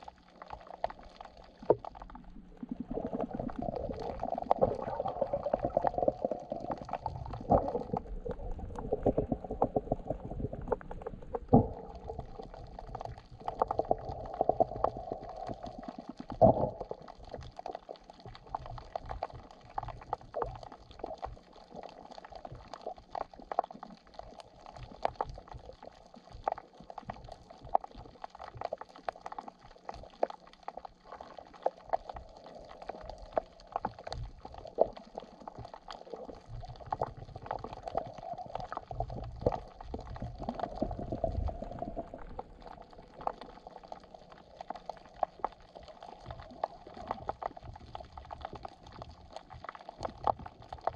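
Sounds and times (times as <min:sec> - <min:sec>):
underwater sharp clicks and crackles: 0:00.0 - 0:50.9
underwater water bubbling: 0:00.0 - 0:50.9.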